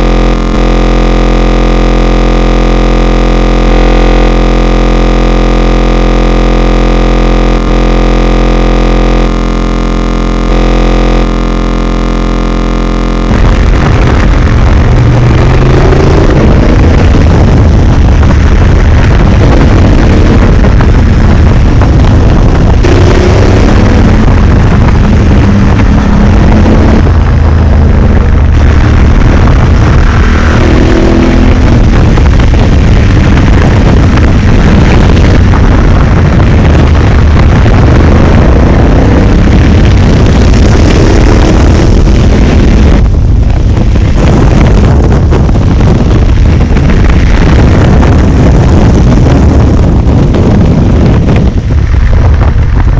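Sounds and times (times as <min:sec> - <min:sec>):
motorcycle engine: 0:00.0 - 0:52.9
wind noise on microphone: 0:00.0 - 0:52.9.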